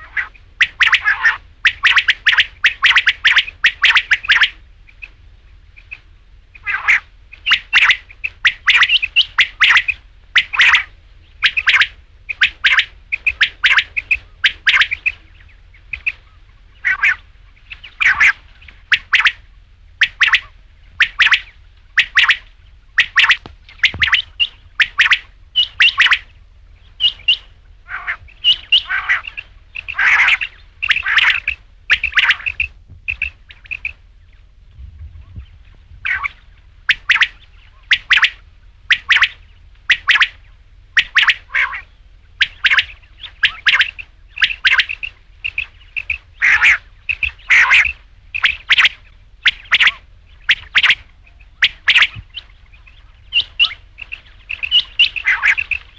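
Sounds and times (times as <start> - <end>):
quail chirping: 0.0 - 55.9.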